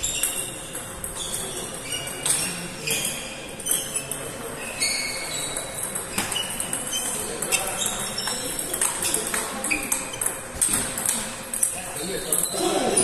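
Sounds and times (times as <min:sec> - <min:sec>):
table tennis balls clicking: 0:00.0 - 0:13.0.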